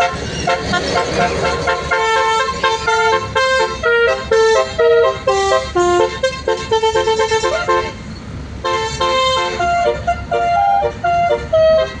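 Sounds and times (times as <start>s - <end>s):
bus air horn melody: 0.0s - 12.0s.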